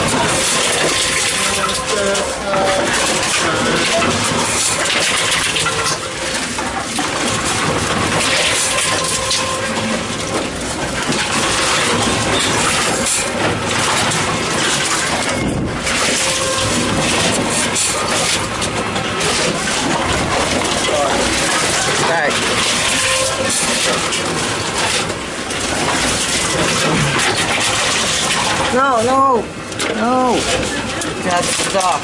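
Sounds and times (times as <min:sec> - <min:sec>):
plastic bottles clattering: 0:00.0 - 0:32.0
vending machine running: 0:00.0 - 0:32.0.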